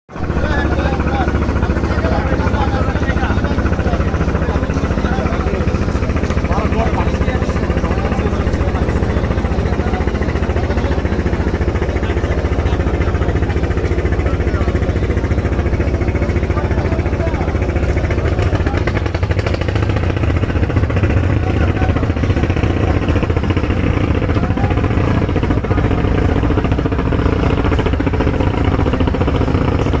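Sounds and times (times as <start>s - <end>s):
speedboat engine running: 0.1s - 30.0s.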